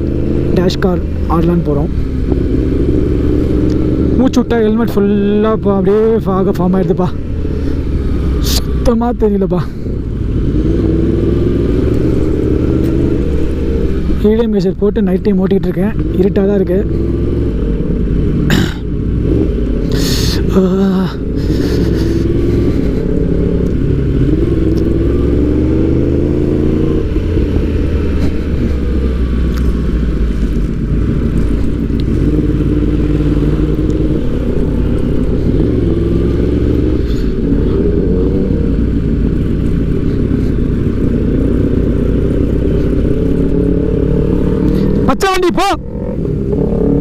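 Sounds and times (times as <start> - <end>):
motorcycle engine shifting gears: 0.0 - 14.5, 15.6 - 47.0
low wind rumble: 0.0 - 47.0.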